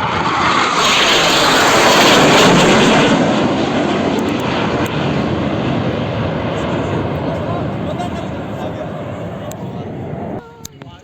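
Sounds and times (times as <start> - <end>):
jet flying past roaring: 0.0 - 10.4.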